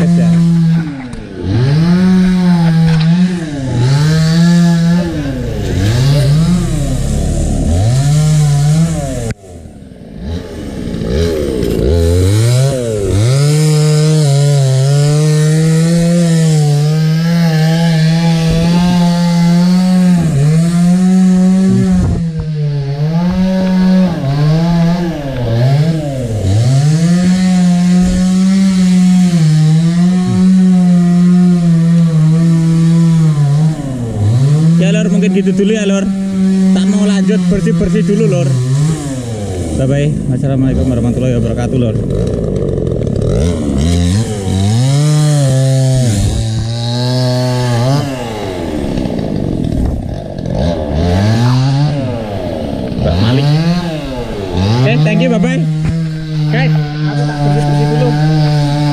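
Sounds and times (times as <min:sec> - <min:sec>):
chainsaw cutting branches: 0:00.0 - 0:58.9.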